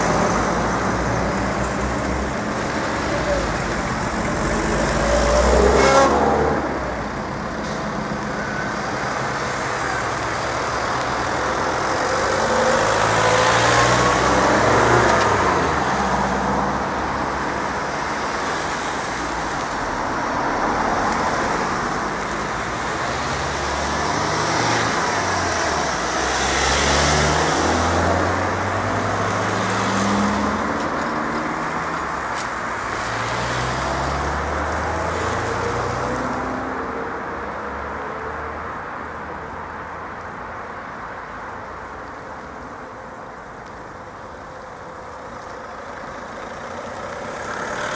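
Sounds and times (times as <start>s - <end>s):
cars driving past: 0.0s - 47.9s.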